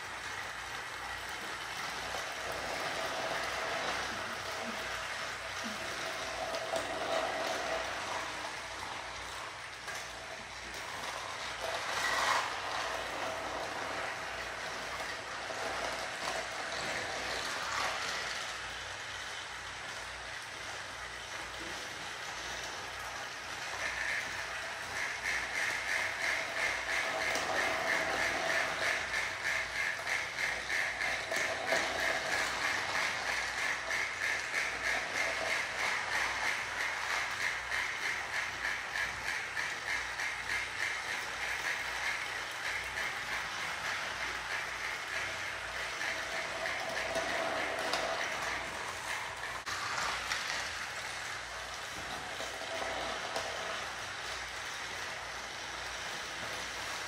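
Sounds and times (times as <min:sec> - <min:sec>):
toy train motors whirring: 0:00.0 - 0:57.0.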